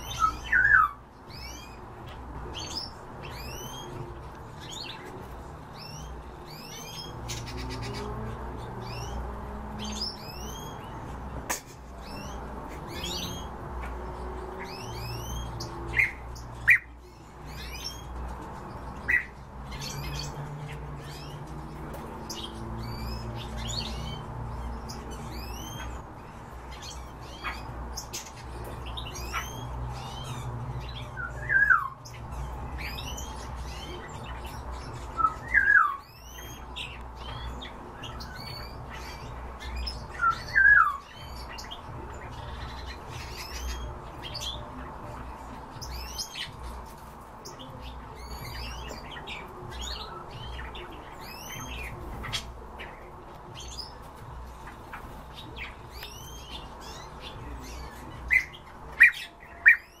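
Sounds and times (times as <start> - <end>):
cage birds chirping: 0.0 - 60.0.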